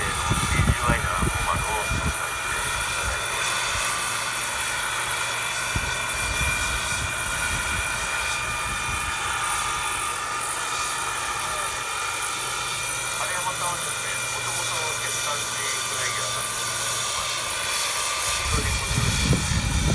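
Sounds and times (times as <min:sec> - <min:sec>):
helicopter rotor noise: 0:00.0 - 0:19.9
model helicopter turbine whine: 0:00.0 - 0:19.9.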